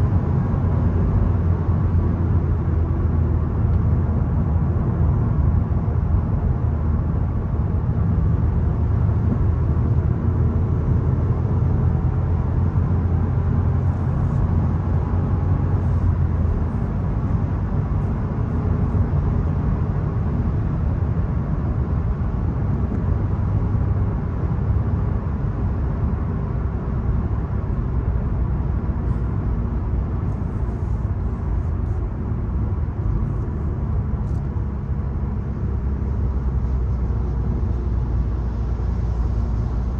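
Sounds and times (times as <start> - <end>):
car engine droning: 0.0 - 39.9
tyre and road noise: 7.3 - 39.9.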